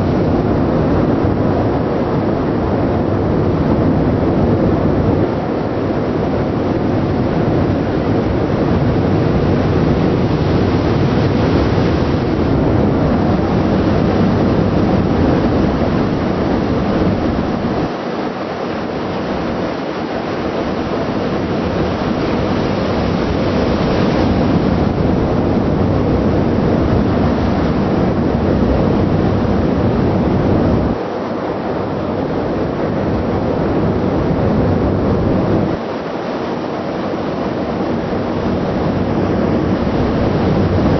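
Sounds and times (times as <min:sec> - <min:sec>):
sea: 0:00.0 - 0:40.9
ship engine rumble: 0:00.0 - 0:40.9
wind rushing over microphone: 0:00.0 - 0:40.9.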